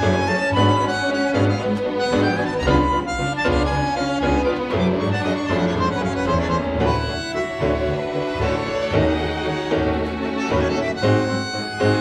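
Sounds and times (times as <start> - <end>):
string orchestra with bandoneon: 0.0 - 12.0.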